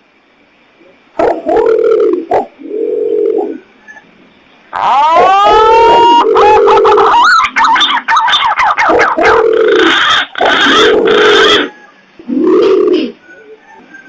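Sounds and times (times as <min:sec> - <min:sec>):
deep hooting pigeon coos: 0:01.2 - 0:03.7, 0:04.8 - 0:13.6.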